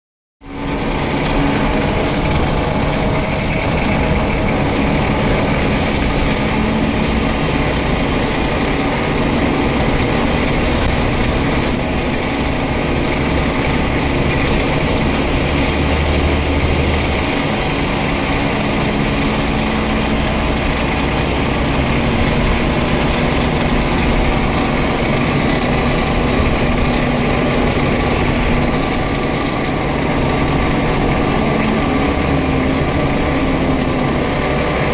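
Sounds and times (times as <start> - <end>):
bus diesel engine drone: 0.4 - 34.9
cabin rumble: 0.5 - 34.9.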